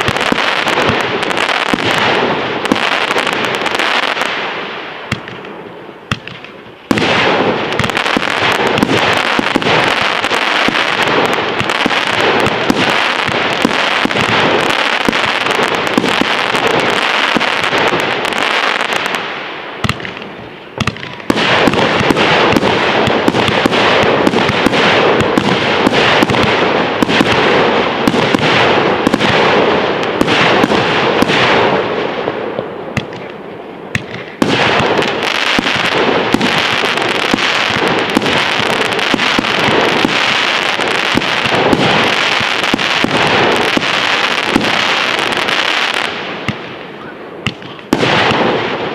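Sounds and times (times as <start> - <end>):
fireworks crackling and popping: 0.0 - 48.9.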